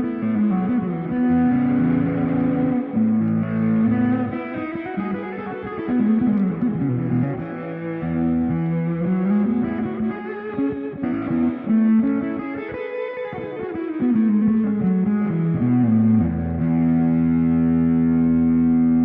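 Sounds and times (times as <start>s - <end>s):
electric guitar sliding notes: 0.0s - 19.0s.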